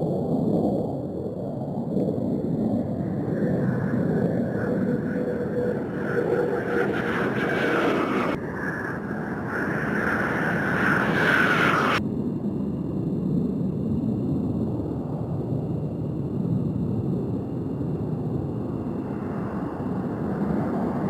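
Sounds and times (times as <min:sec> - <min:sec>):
jet engine roaring with whine: 0:00.0 - 0:21.0.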